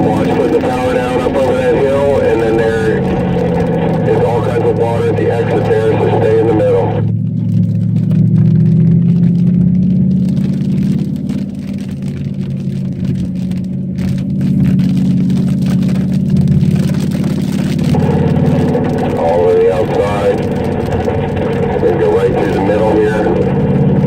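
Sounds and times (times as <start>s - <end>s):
car engine running under load: 0.0s - 24.0s.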